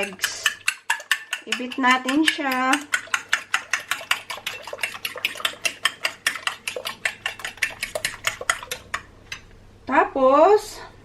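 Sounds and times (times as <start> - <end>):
whisk clicking against bowl: 0.0 - 9.5.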